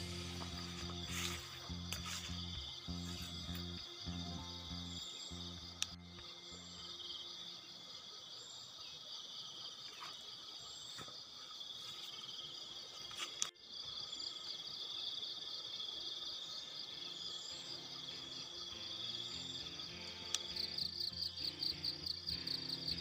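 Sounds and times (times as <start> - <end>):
insect chorus: 0.0 - 23.0.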